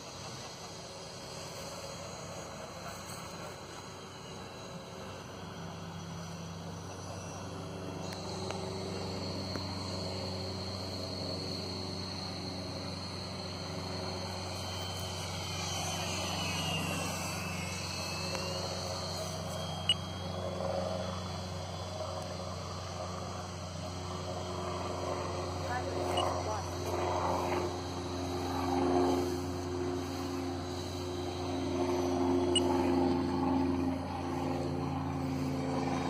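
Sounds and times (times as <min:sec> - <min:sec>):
model jet high whine: 0:00.0 - 0:36.0.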